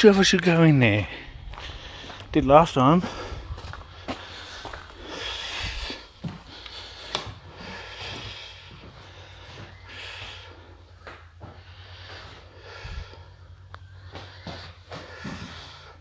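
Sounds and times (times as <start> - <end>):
person breathing heavily: 0.9 - 16.0.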